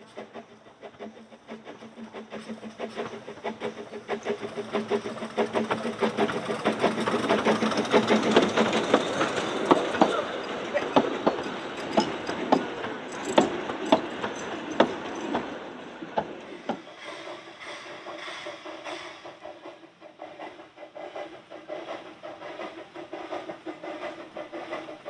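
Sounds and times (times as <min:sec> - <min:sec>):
train wheels clicking over rail joints: 0:00.0 - 0:25.0.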